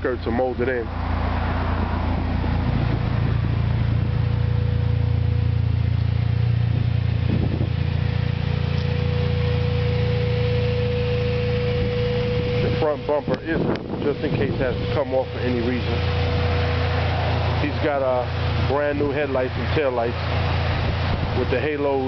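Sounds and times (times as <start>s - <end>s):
car engine idling: 0.0s - 22.0s
thin steady whine: 0.0s - 22.0s.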